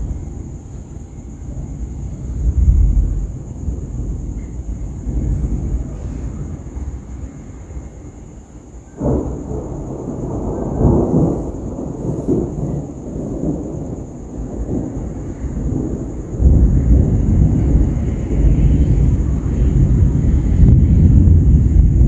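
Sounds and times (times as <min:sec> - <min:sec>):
thunder rumbling: 0:00.0 - 0:22.0.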